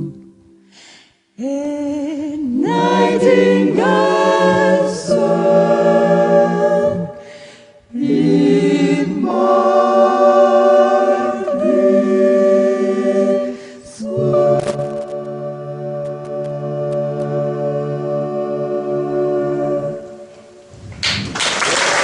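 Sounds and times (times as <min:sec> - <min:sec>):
vocal group singing in harmony: 0:00.0 - 0:00.6, 0:01.4 - 0:20.6.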